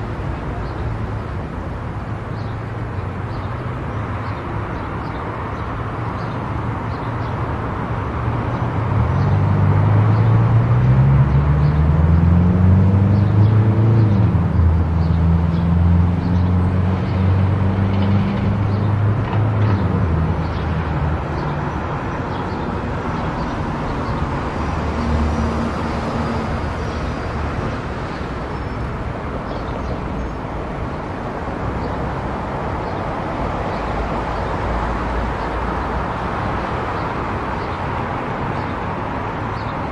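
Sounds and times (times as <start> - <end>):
tyre and road noise: 0.0 - 39.9.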